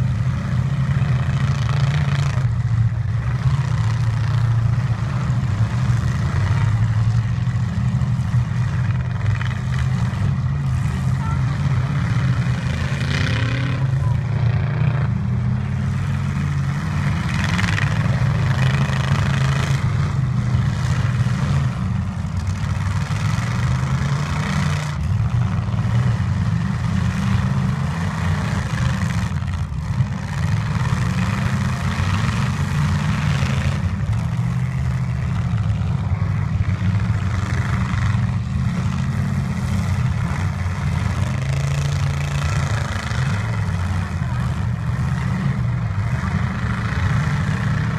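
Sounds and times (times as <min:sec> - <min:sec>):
truck engines revving: 0:00.0 - 0:47.9.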